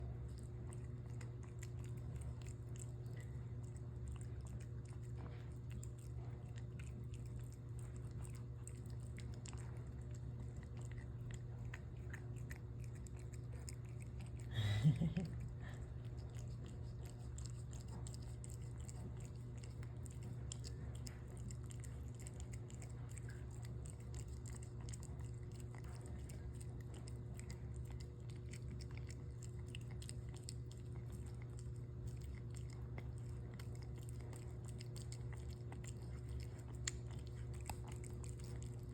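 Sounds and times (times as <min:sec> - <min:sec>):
cat crunching and chewing food: 0:00.0 - 0:38.9.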